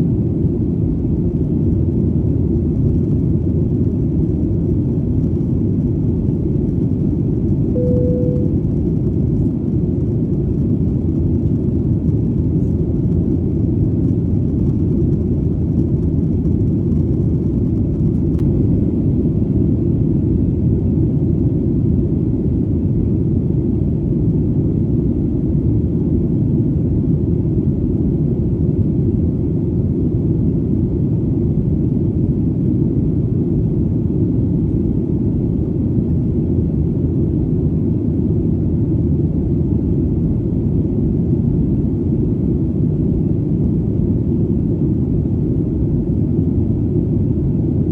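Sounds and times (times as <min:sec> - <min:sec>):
airplane engine drone: 0:00.0 - 0:47.9.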